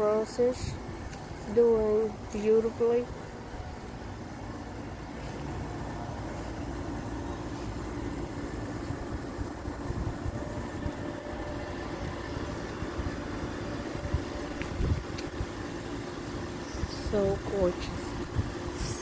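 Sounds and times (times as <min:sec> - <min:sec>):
air conditioner unit humming: 0:00.0 - 0:19.0.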